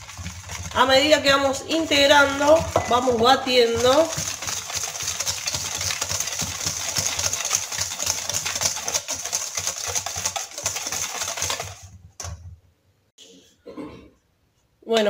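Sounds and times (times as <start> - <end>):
whisk beating in metal bowl: 0.0 - 12.5.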